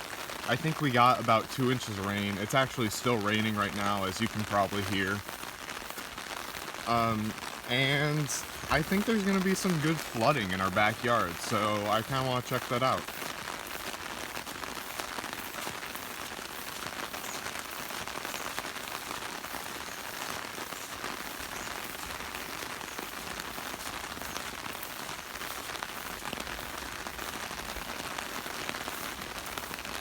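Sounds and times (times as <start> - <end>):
steady rain pattering: 0.0 - 30.0.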